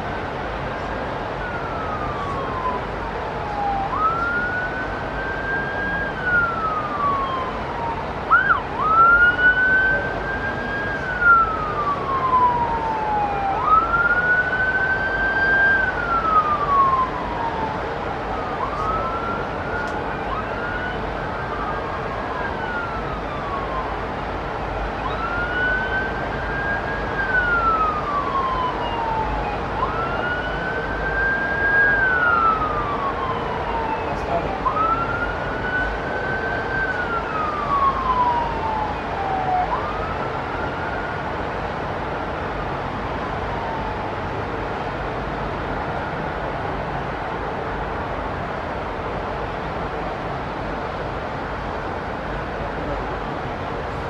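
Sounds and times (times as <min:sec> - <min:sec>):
emergency siren slow wail: 0:00.0 - 0:54.0.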